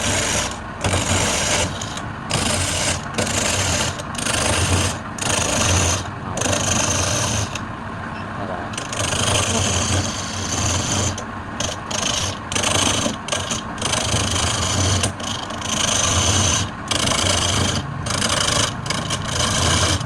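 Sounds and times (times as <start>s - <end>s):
tool scraping spinning wood: 0.0s - 7.7s, 8.7s - 20.0s
wood lathe motor hum: 0.0s - 7.7s, 8.7s - 20.0s.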